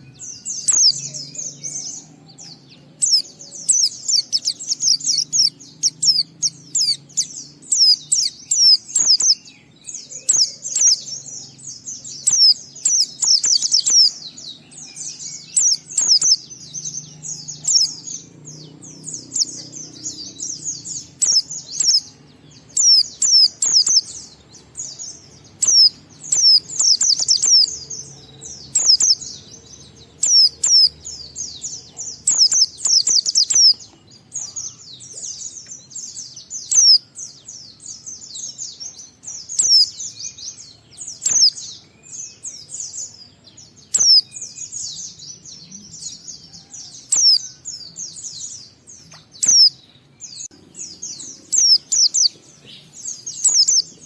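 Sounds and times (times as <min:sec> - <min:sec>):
bird twittering song: 0:00.0 - 0:54.0.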